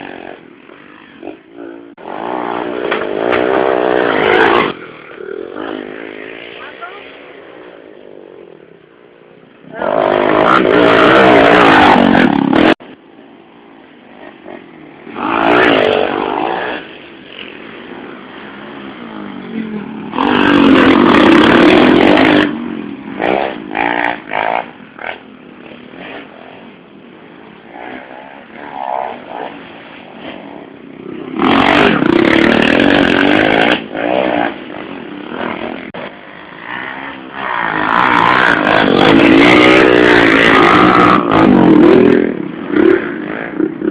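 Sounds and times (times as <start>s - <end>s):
motorcycles racing past: 0.0s - 43.9s.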